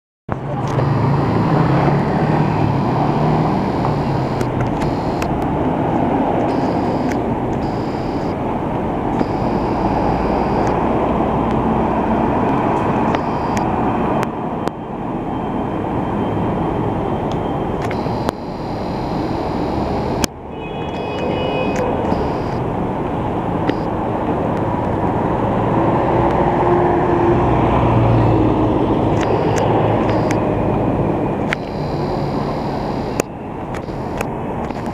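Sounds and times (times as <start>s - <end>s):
traffic engines passing: 0.3s - 34.9s.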